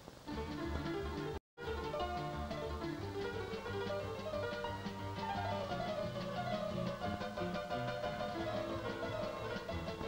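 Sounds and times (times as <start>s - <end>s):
instrumental background music: 0.3s - 10.0s.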